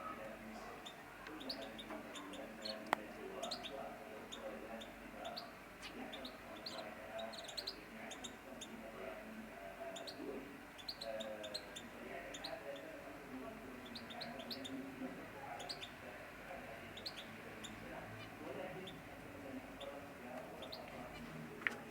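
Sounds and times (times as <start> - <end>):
canaries chirping: 0.0 - 21.9.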